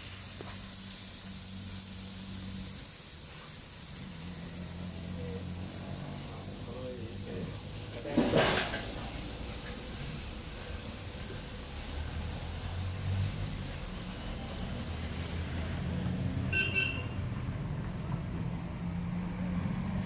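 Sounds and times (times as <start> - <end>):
food sizzling on griddle: 0.0 - 20.0
low traffic rumble: 0.0 - 20.0.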